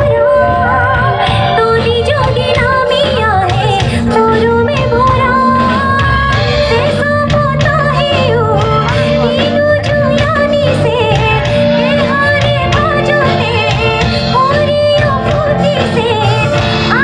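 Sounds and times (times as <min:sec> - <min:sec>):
band accompaniment with low beat: 0:00.0 - 0:17.0
woman singing with vibrato: 0:00.0 - 0:17.0.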